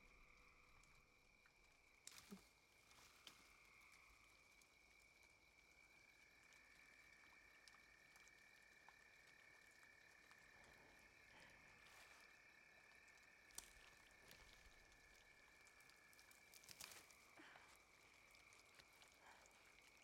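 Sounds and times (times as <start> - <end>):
soft ticks and drips: 0.0 - 20.0.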